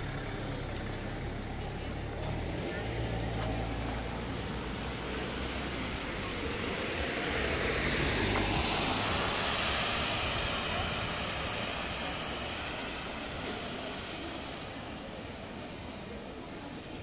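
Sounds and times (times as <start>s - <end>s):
car tyres hissing on wet road: 0.0s - 17.0s.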